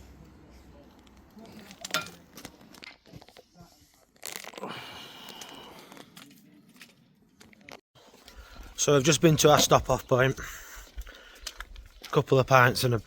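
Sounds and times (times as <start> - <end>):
crinkling and rustling handling noise: 0.1 - 4.6, 5.3 - 13.0.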